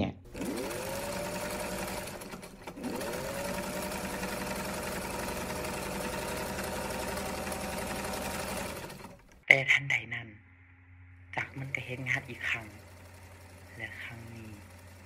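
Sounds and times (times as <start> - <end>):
sewing machine running: 0.3 - 9.4, 11.4 - 15.0.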